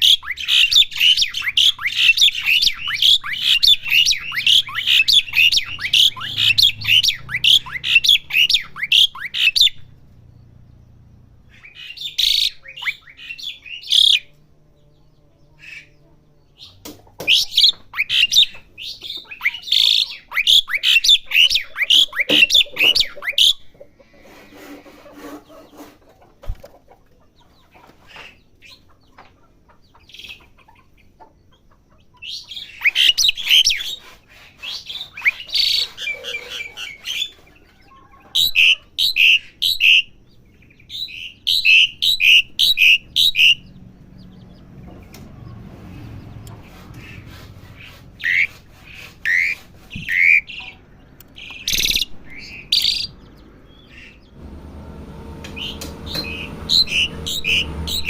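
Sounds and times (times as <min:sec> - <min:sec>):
starling singing: 0:00.0 - 0:25.8, 0:32.1 - 0:54.7, 0:55.5 - 0:58.0.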